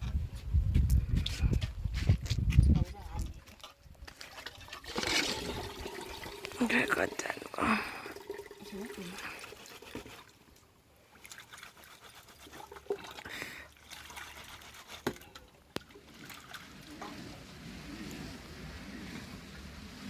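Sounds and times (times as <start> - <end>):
liquid trickling and pouring: 3.2 - 20.0.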